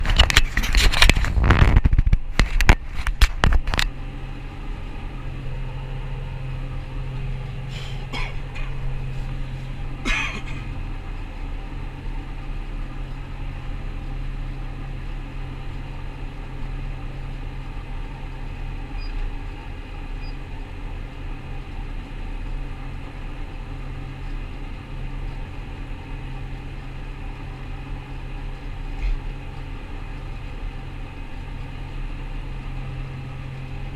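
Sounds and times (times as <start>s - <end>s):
combine harvester droning: 0.0s - 33.9s.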